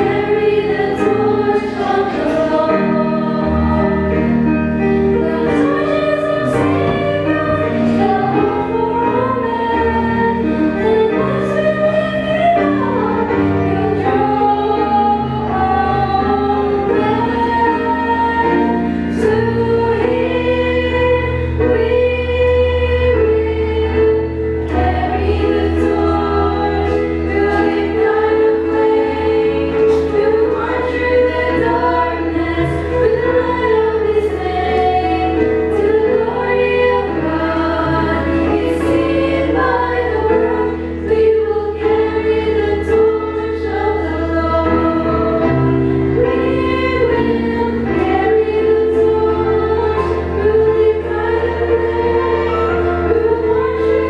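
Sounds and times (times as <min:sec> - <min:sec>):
women singing in harmony: 0:00.0 - 0:54.0.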